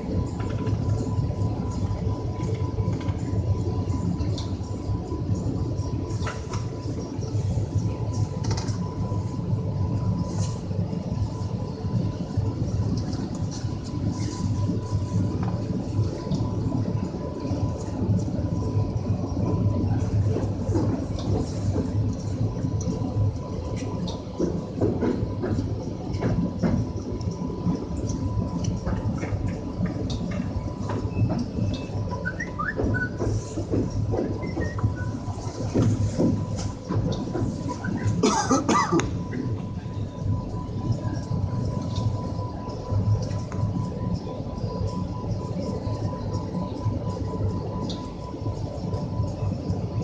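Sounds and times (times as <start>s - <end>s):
train running rumble: 0.0s - 50.0s.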